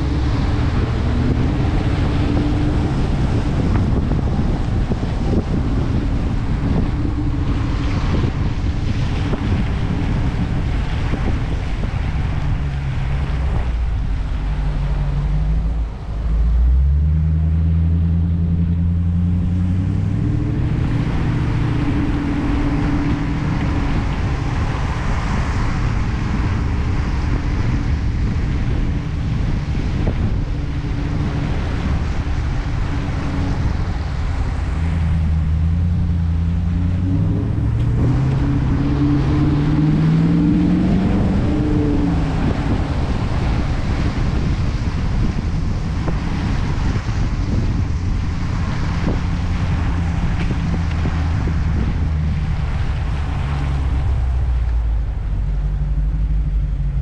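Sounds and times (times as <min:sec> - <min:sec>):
car engine accelerating: 0:00.0 - 0:57.0
wind noise on microphone: 0:00.0 - 0:57.0.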